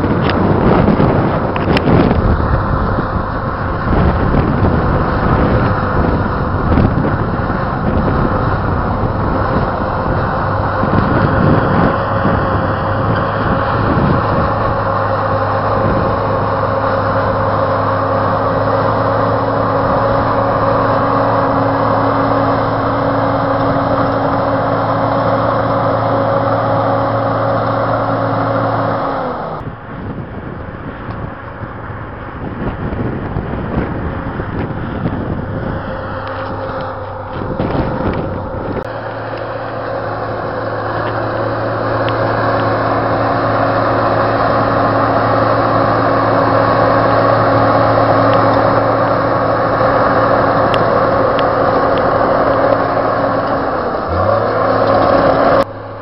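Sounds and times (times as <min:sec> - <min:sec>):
bulldozer diesel engine droning: 0:00.0 - 0:56.0
gusty wind on microphone: 0:00.0 - 0:56.0.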